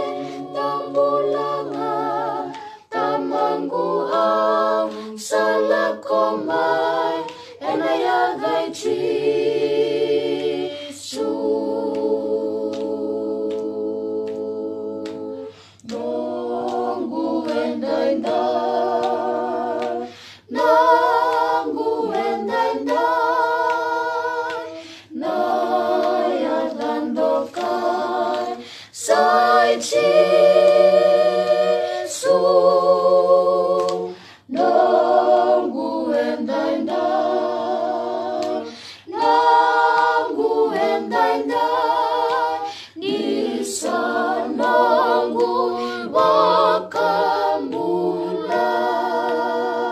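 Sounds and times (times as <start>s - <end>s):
choir singing a cappella: 0.0s - 49.9s.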